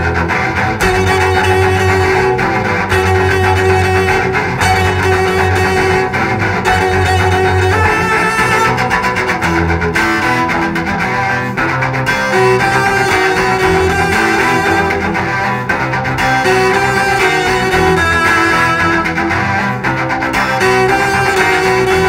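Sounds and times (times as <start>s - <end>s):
cellos playing heavy metal: 0.0s - 22.0s.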